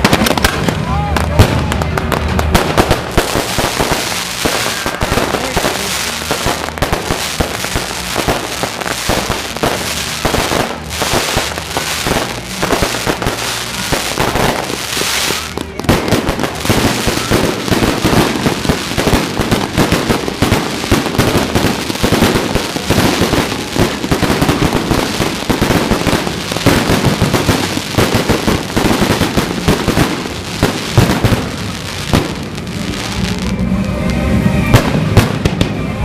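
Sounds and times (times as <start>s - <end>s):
fireworks crackling bangs: 0.0s - 36.0s.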